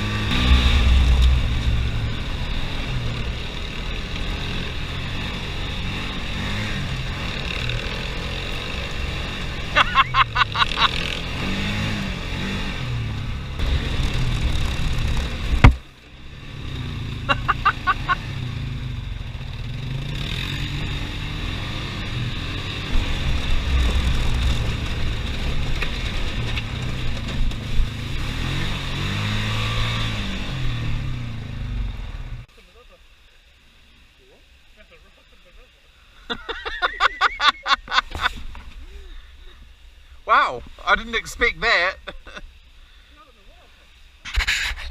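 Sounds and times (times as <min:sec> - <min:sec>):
off-road engines running: 0:00.0 - 0:44.9.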